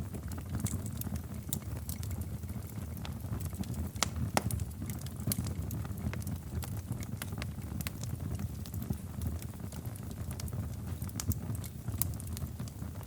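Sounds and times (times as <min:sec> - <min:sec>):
fire low rumble: 0:00.0 - 0:13.0
wood fire popping and snapping: 0:00.0 - 0:13.0.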